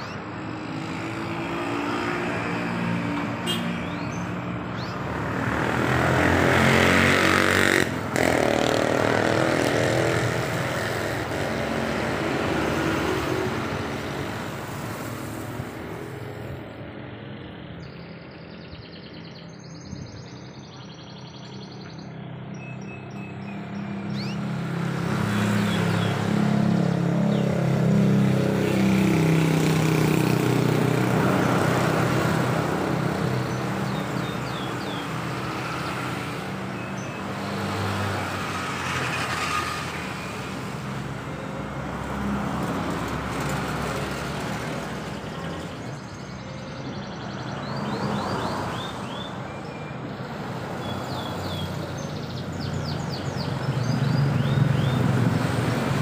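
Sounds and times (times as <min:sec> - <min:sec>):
outdoor traffic noise: 0:00.0 - 0:56.0.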